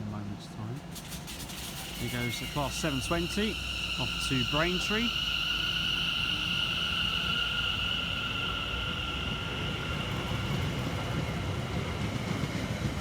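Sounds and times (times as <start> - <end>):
train rumble: 0.0 - 13.0
electric train whine: 0.1 - 13.0.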